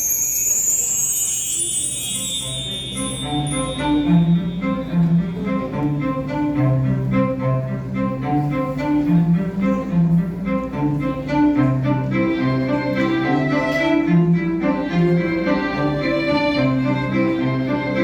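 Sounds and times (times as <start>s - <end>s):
bowed strings low melody: 1.1s - 18.0s.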